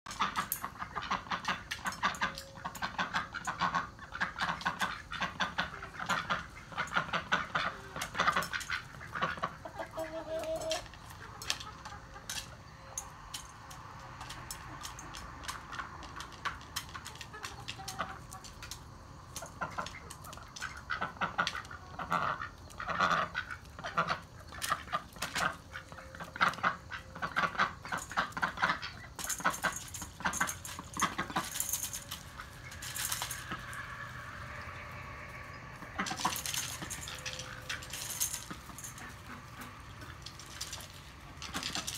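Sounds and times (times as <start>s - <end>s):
ducks quacking and honking: 0.1s - 12.6s, 19.4s - 41.9s
beaks pecking food in metal bowls: 0.1s - 41.9s
chickens clucking: 0.1s - 41.9s.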